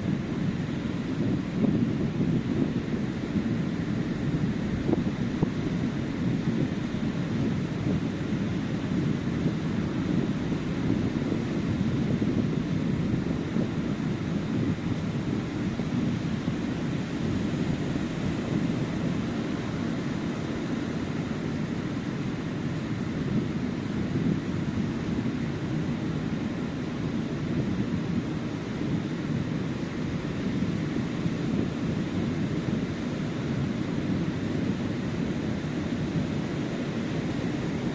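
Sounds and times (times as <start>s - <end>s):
ocean surf on sandy beach: 0.0s - 37.9s.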